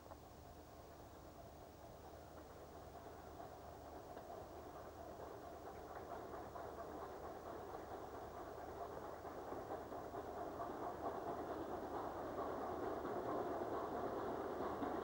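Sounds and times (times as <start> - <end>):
steam locomotive working: 1.5 - 15.0.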